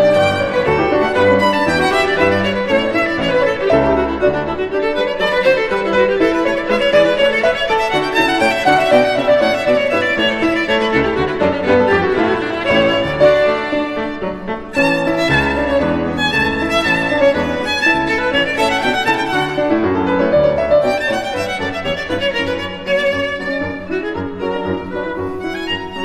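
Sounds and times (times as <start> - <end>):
musical accompaniment: 0.0 - 26.0
violin melody: 0.0 - 26.0.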